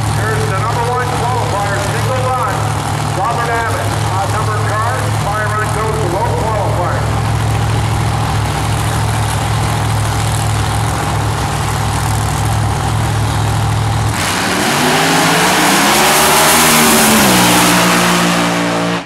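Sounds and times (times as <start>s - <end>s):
drag car engine revving: 0.0s - 19.0s.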